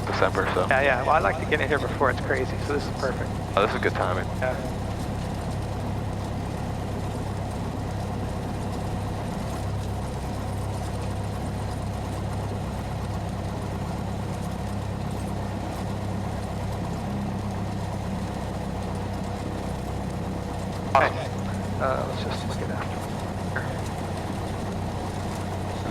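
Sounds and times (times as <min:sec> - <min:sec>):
aircraft engine idling: 0:00.0 - 0:25.9.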